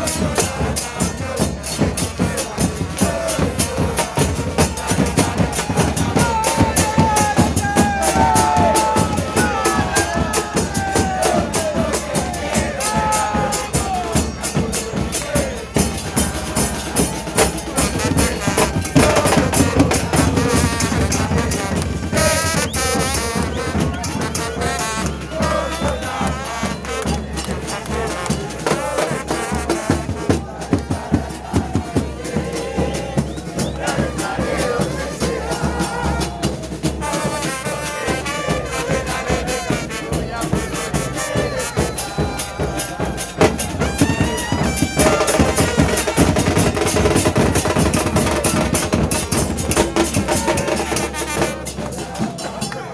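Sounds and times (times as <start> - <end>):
crowd chanting: 0.0 - 52.9
drums and brass band playing: 0.0 - 52.9.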